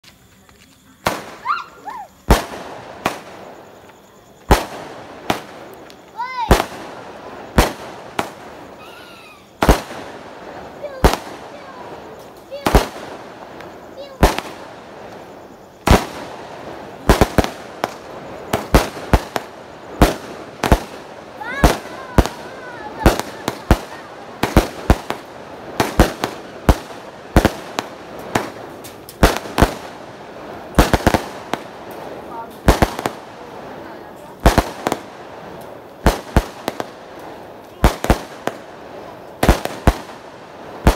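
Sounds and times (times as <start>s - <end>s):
fireworks bangs: 0.8s - 40.9s.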